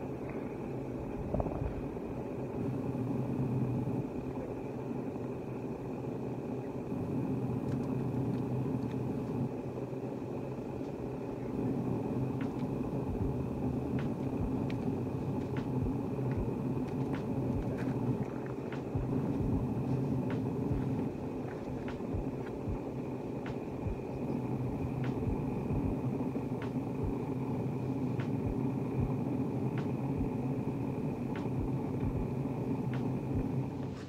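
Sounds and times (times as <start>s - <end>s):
faint high whine: 0.0s - 34.0s
steady low rumble: 0.0s - 34.0s.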